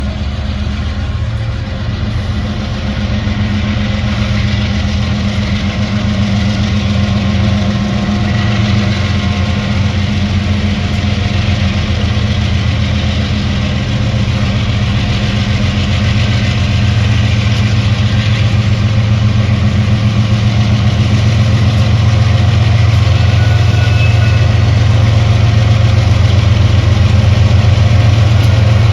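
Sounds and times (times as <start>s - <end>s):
diesel locomotive engine drone: 0.0s - 28.9s.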